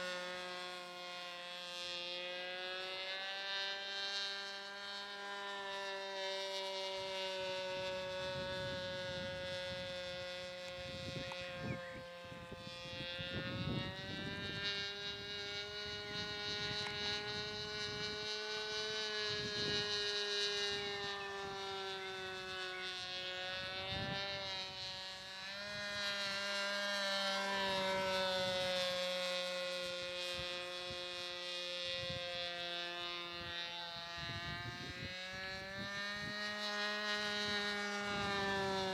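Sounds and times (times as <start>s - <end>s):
model airplane engine buzzing: 0.0s - 38.9s.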